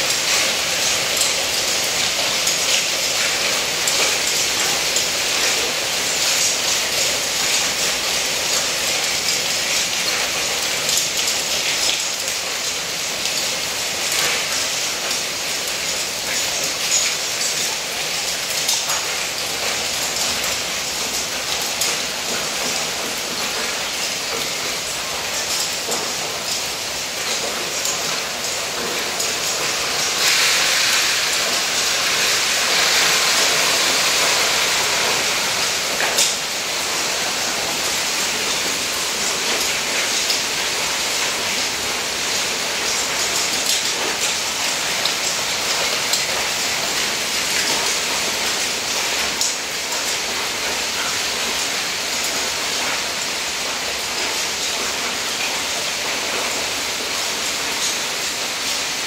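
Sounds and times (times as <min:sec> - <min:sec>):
hail pelting paving and roof: 0:00.0 - 0:59.0.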